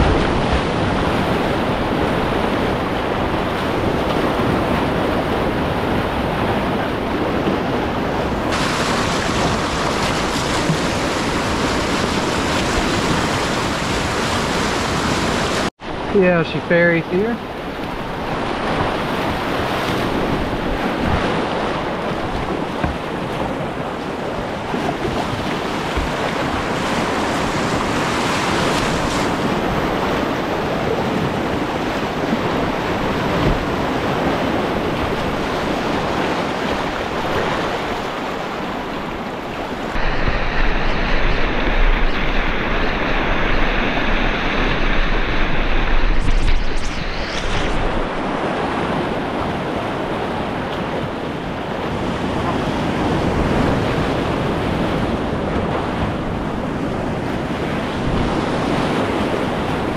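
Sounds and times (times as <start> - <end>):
whitewater rapids rushing: 0.0 - 50.6.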